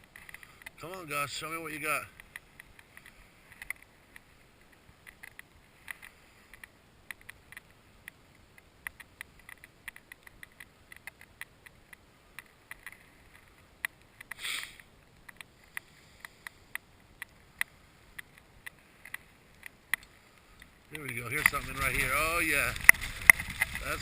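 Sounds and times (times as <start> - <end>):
faint hiss: 0.0 - 24.0
rustle: 0.0 - 24.0
snow ticking against camera: 0.0 - 24.0.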